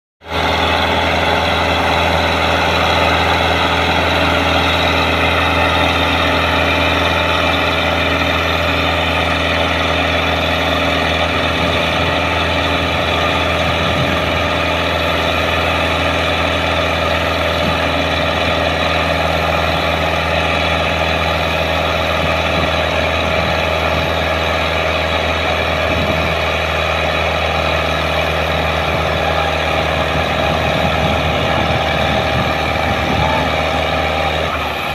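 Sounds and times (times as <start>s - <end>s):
tractor diesel engine labouring: 0.2s - 34.9s.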